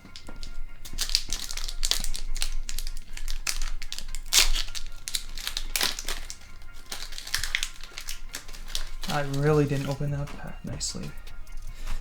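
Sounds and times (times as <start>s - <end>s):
foil wrapper tearing and crinkling: 0.0s - 12.0s.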